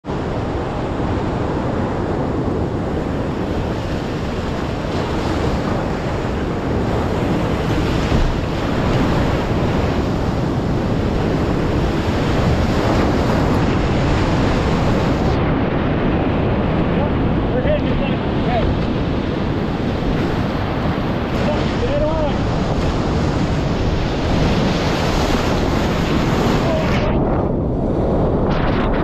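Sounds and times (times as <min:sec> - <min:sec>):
whitewater rapid roaring: 0:00.2 - 0:27.3.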